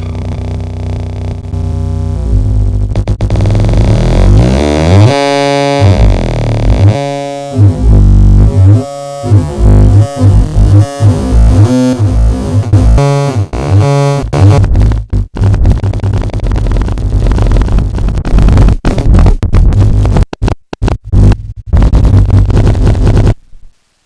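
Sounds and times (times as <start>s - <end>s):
stuttering synthesizer tones: 0.0s - 23.4s.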